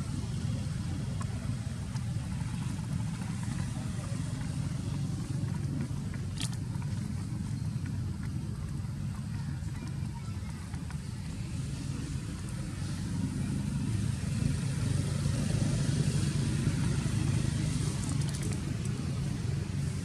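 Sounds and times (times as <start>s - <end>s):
motor engine rumbling: 0.0s - 20.0s.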